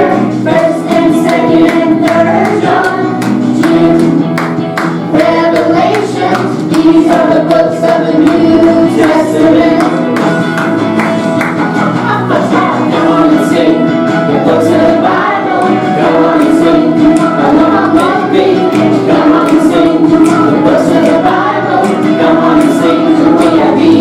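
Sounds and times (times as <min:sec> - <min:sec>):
group singing over a band: 0:00.0 - 0:04.3, 0:05.0 - 0:10.6, 0:11.8 - 0:24.0.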